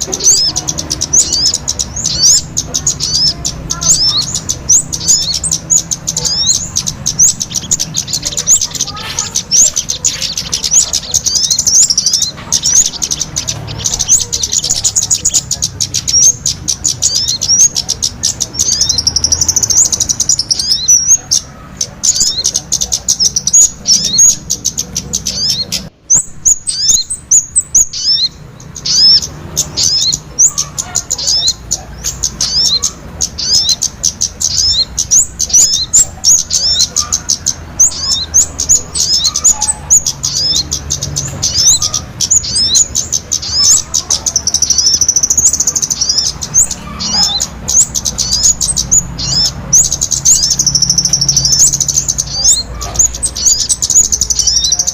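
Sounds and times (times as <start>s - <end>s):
rapid high-pitched bird chirping: 0.0s - 54.9s.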